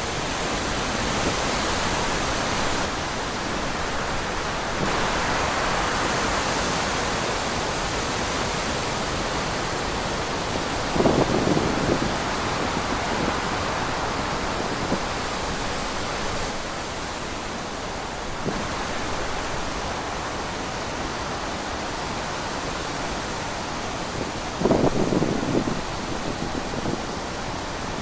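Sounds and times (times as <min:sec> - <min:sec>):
wind blowing: 0:00.0 - 0:08.3, 0:08.9 - 0:28.0.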